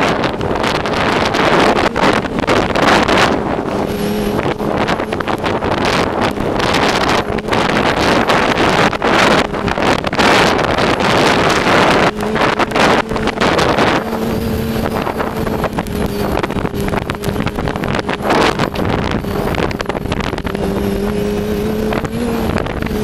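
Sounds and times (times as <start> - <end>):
snowmobile engine droning: 0.0 - 23.0
wind on microphone: 0.0 - 23.0.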